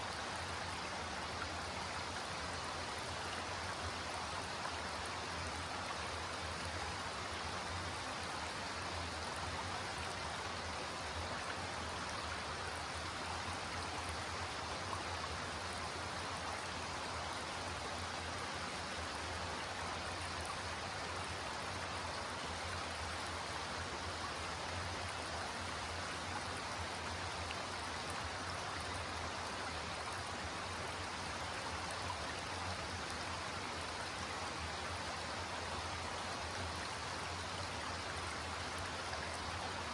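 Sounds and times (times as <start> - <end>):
creek rippling over rocks: 0.0 - 39.9.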